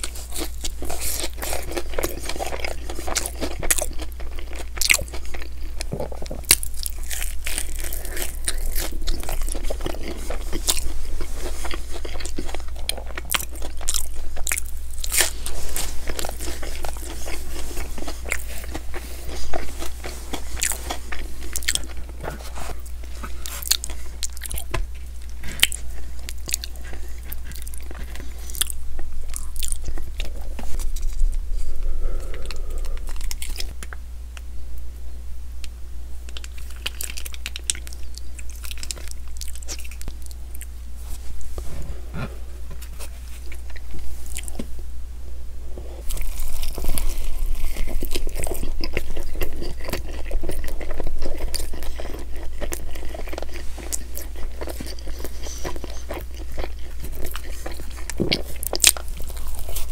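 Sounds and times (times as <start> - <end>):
crunchy biting and chewing: 0.0 - 34.5, 36.2 - 44.7, 45.8 - 59.9.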